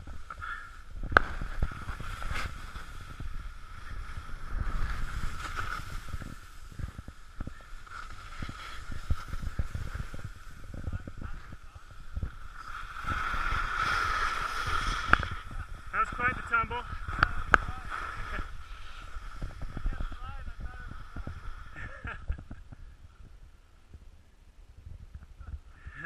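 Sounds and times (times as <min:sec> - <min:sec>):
skis scraping over snow: 0:00.0 - 0:22.0
wind on microphone: 0:00.0 - 0:26.0.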